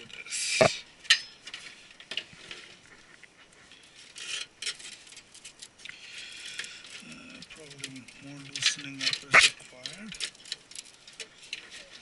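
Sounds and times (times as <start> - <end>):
cables rustling and rubbing: 0.6 - 12.0.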